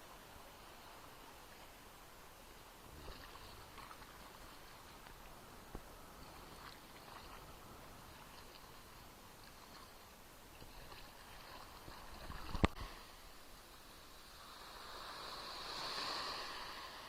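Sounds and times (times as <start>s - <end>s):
small waves lapping on shore: 0.0s - 17.0s.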